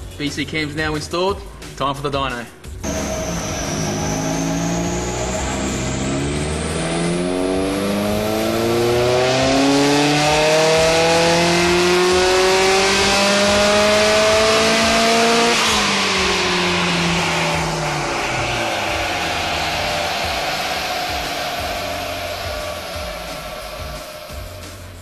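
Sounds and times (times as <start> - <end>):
car engine revving hard: 2.8 - 25.0.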